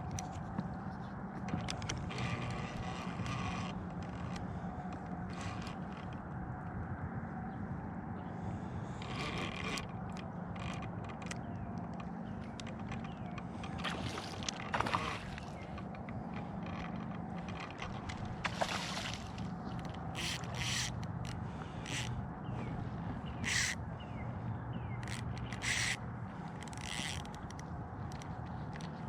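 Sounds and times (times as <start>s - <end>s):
boat motor humming: 0.0s - 29.0s
gear scraping and clicking: 1.4s - 6.3s, 8.8s - 23.9s, 24.8s - 29.0s.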